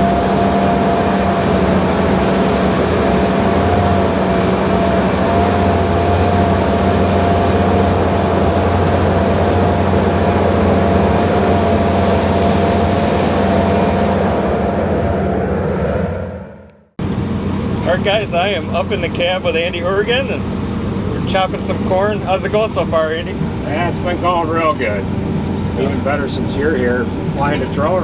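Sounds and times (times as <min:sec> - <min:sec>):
heavy diesel drone: 0:00.0 - 0:28.0
high machine whine: 0:00.0 - 0:28.0.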